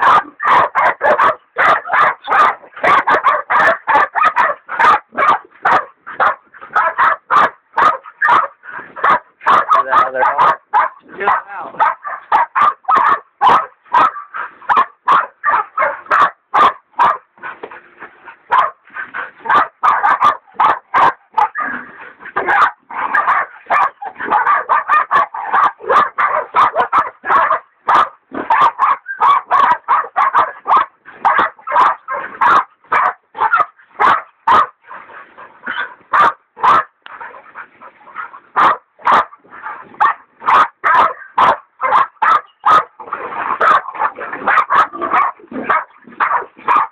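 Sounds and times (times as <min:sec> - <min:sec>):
dogs barking sharply: 0:00.0 - 0:17.4, 0:18.5 - 0:18.8, 0:19.4 - 0:35.0, 0:35.6 - 0:46.9.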